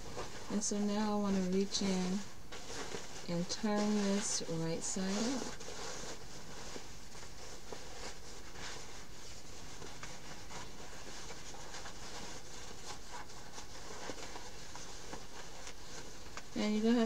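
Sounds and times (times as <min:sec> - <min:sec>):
stiff fabric rustling: 0:00.0 - 0:17.0.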